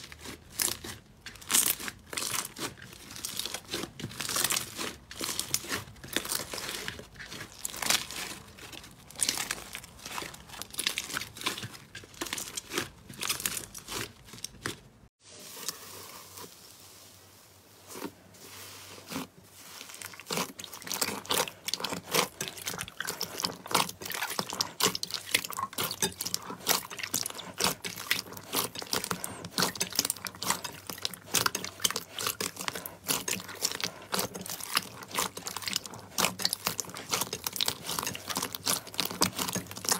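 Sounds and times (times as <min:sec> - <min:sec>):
slime crackling and squelching: 0:00.0 - 0:17.1, 0:17.7 - 0:39.9.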